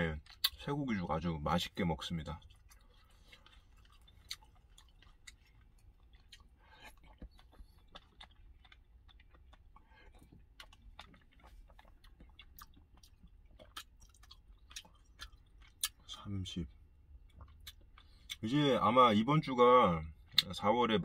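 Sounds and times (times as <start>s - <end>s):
person chewing food: 0.0s - 0.7s, 1.6s - 18.5s.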